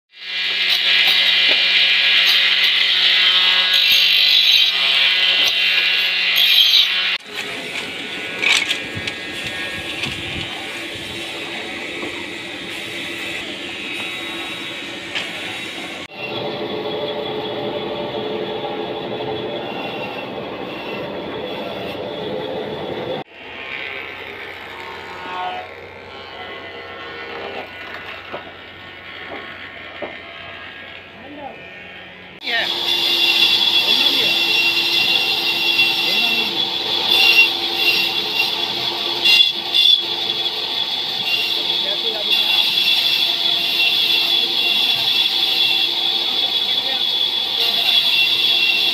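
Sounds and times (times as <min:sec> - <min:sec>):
wood grinding on abrasive disc: 0:00.3 - 0:16.1, 0:23.4 - 0:48.9.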